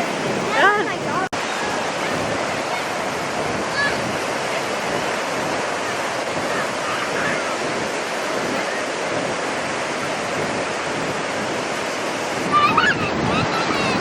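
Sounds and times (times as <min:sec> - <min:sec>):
ocean waves washing on shore: 0:00.0 - 0:14.0
wind on microphone: 0:00.0 - 0:14.0.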